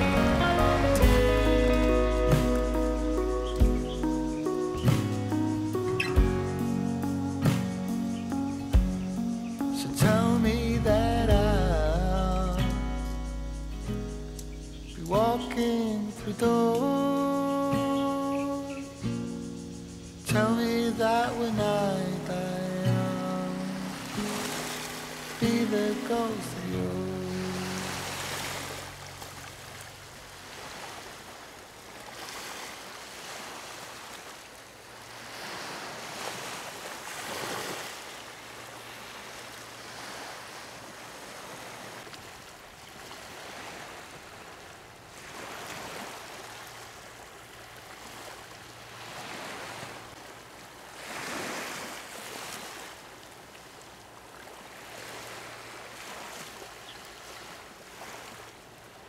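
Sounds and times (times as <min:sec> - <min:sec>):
small waves breaking on shore: 0:00.0 - 0:59.0.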